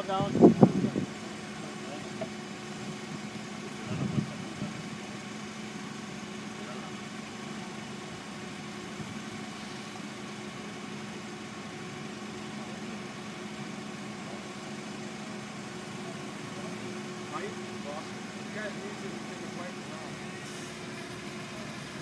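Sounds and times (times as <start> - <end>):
forklift engine idling: 0.0 - 22.0.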